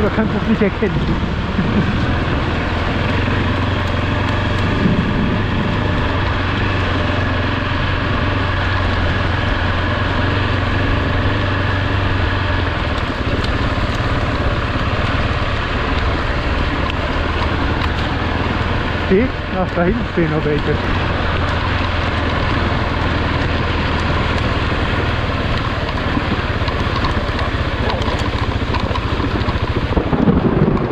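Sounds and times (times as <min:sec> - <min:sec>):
motorcycle engine running: 0:00.0 - 0:30.9
wind: 0:00.0 - 0:30.9.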